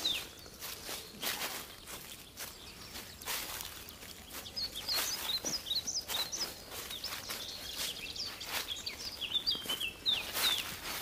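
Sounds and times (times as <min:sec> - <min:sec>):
footsteps on dry leaves: 0:00.0 - 0:11.0
small birds chirping: 0:00.0 - 0:11.0.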